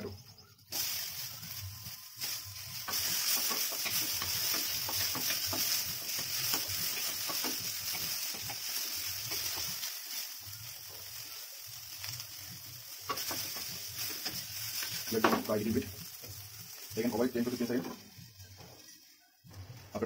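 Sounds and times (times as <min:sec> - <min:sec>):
tomato sizzling in hot oil: 0:00.0 - 0:20.0
wooden spatula scraping: 0:00.8 - 0:19.8.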